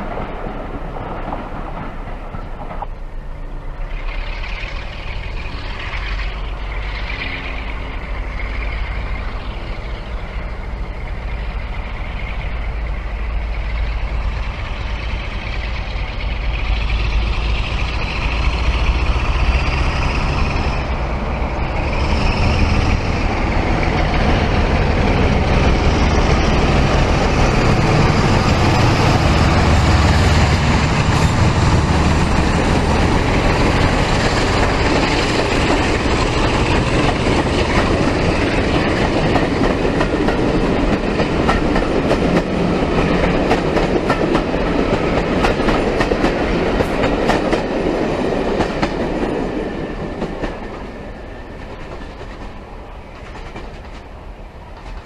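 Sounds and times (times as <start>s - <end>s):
steady rush of train: 0.0s - 55.0s
train engine rumble: 0.0s - 55.0s.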